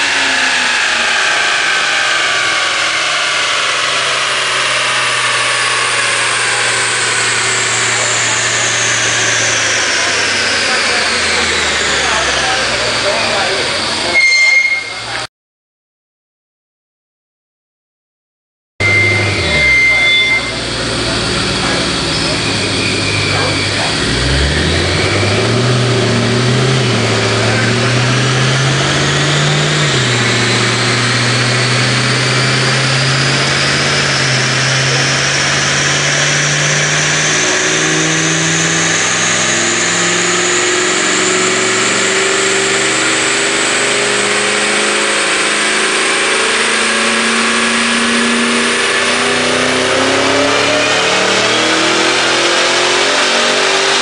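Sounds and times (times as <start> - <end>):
car engine revving under load: 0.0 - 14.2, 18.8 - 54.0
supercharger whine: 0.0 - 15.3, 18.8 - 54.0.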